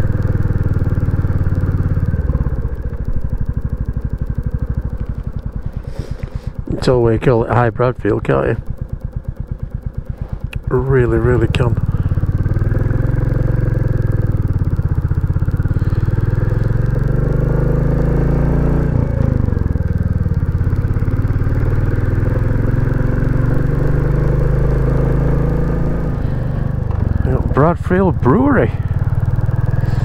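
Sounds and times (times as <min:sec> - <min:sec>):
motorcycle engine pulling away: 0:00.0 - 0:30.0.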